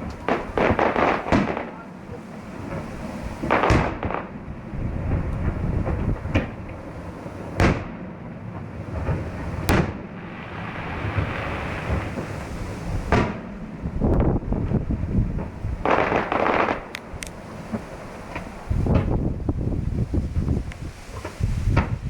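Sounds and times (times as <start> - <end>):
fireworks bangs: 0.0 - 22.0
steady rumble: 0.0 - 22.0.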